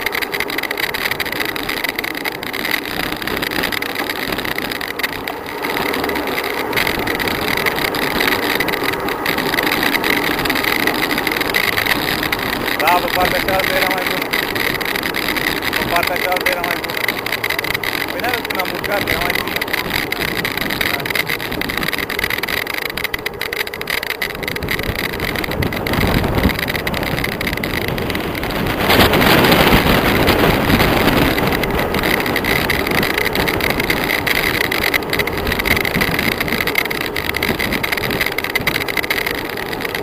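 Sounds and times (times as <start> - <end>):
passing cars: 0.0 - 40.0
tyre and road noise: 0.0 - 40.0
wind rushing over microphone: 0.0 - 40.0.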